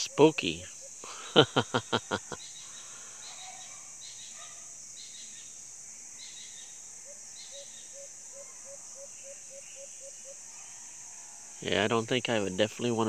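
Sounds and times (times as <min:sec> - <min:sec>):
bird chirps: 0:00.0 - 0:12.1
high insect drone: 0:00.0 - 0:13.0.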